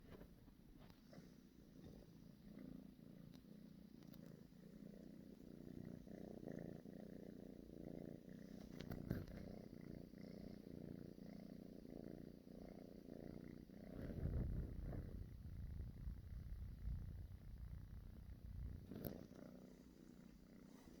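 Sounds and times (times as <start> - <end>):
kitten purring: 0.0 - 21.0.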